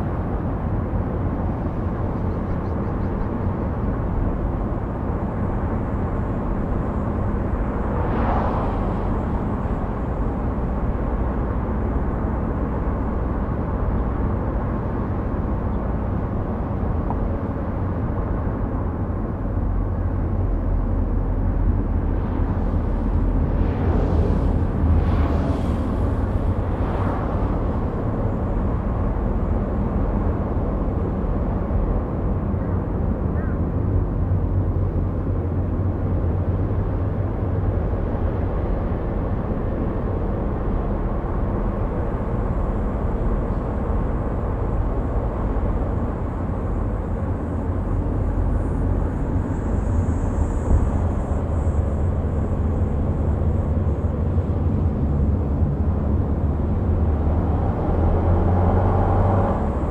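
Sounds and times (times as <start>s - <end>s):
car engine and road rumble: 0.0s - 59.9s
passing traffic whooshes: 0.0s - 59.9s.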